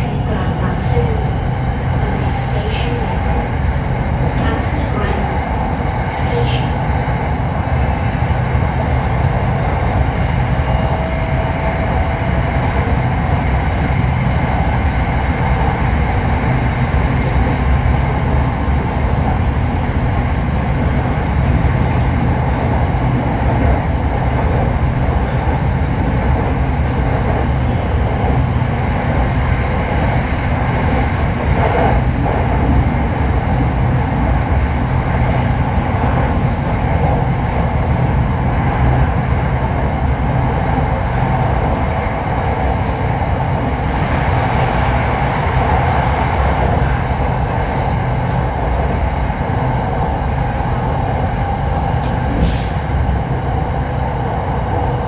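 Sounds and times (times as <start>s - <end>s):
electric train rumbling: 0.0s - 55.0s.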